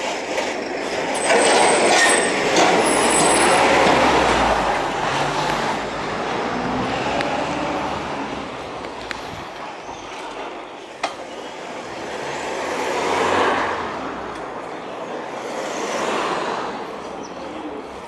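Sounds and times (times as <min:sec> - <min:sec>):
bicycle road and wind noise: 0:00.0 - 0:18.0
cars driving past: 0:00.0 - 0:18.0.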